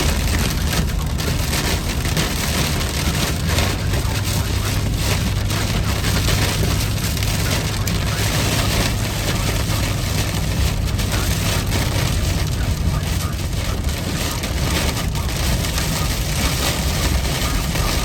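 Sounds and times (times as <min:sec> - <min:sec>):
heavy rain on a car: 0:00.0 - 0:18.0
low hum from car: 0:00.0 - 0:18.0
wet tyre and road noise: 0:00.0 - 0:18.0.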